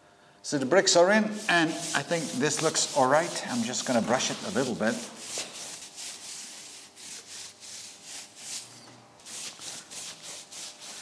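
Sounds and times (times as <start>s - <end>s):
hand brush scraping bricks: 1.3s - 11.0s.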